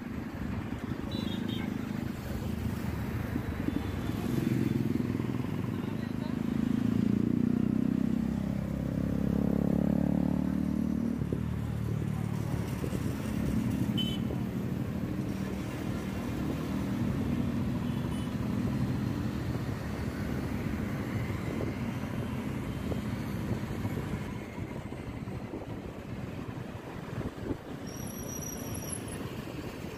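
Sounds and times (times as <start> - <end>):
car and motorcycle engines: 0.0 - 29.9
road and wind noise: 0.0 - 29.9.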